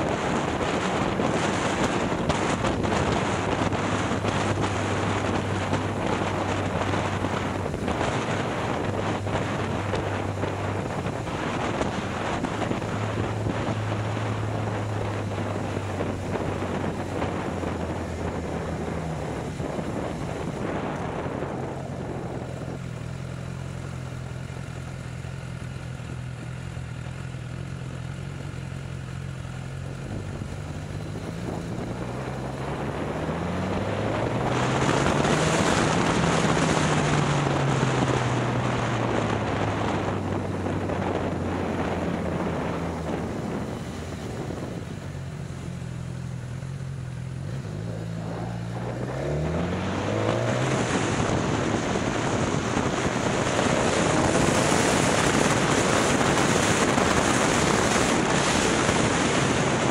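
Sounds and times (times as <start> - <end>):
wind rushing over microphone: 0.0 - 25.1, 29.6 - 59.9
motorcycle engine running: 0.0 - 59.9.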